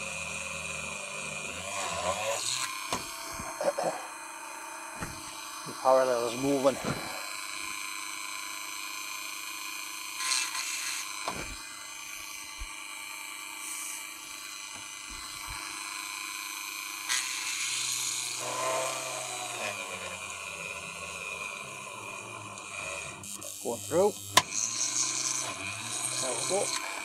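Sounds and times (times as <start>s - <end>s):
rotary tool high whine: 0.0s - 27.0s.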